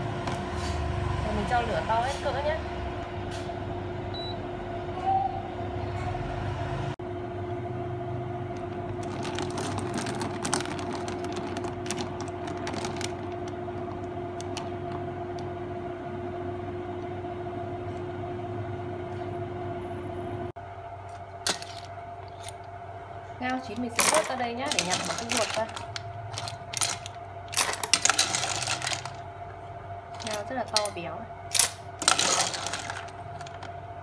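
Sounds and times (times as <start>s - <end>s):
induction cooktop humming: 0.0s - 34.0s.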